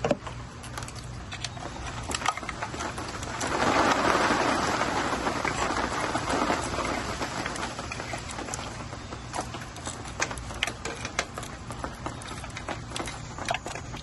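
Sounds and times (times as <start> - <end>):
rough rustling and scraping: 0.0 - 14.0.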